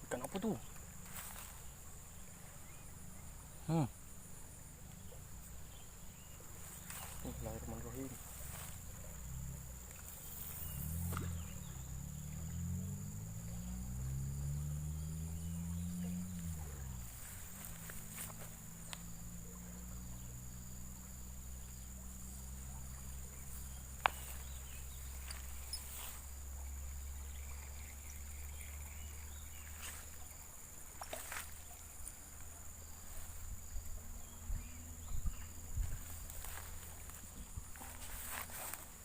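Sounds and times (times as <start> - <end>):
insects buzzing: 0.0 - 39.0
low hum: 0.0 - 39.0.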